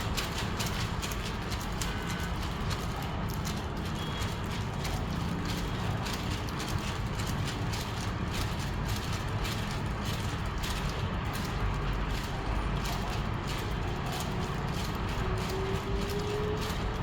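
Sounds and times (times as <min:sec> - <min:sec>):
flapping wing mechanism clattering: 0:00.0 - 0:17.0.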